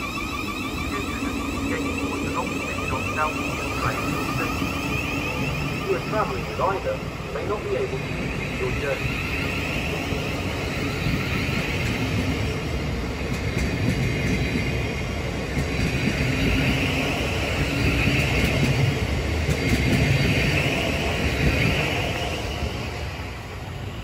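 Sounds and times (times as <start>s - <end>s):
electric train pulling out: 0.0s - 24.0s.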